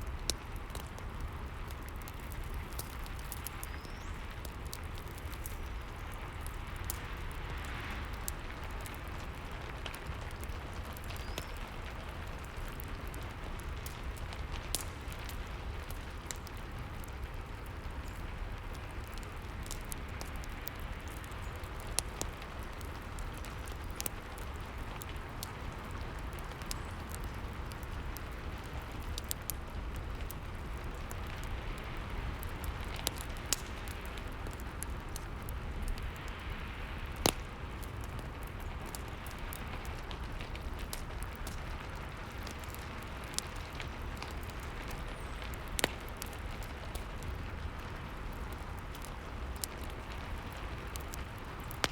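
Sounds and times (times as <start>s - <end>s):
fire popping: 0.0s - 51.9s
fireplace crackling: 0.0s - 51.9s
steady rain: 0.0s - 51.9s.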